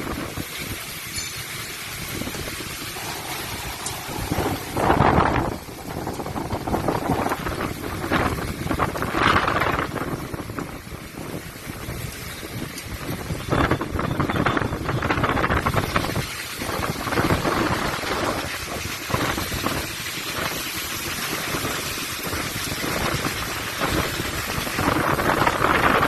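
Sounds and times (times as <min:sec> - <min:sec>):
storm wind gusting on microphone: 0:00.0 - 0:01.0, 0:01.8 - 0:26.0
heavy rain: 0:00.0 - 0:26.0.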